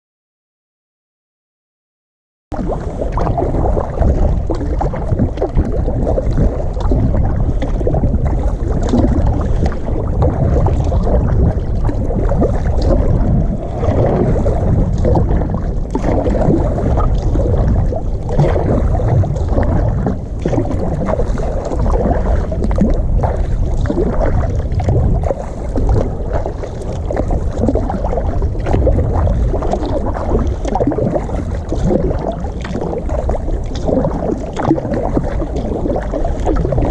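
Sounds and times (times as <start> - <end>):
wind rumble on microphone: 2.5 - 36.9
water splashing and lapping: 2.6 - 36.9.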